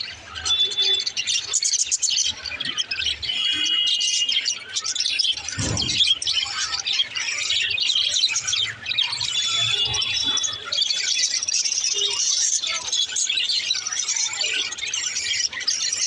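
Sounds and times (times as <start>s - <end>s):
budgerigars chattering and warbling: 0.0s - 16.0s.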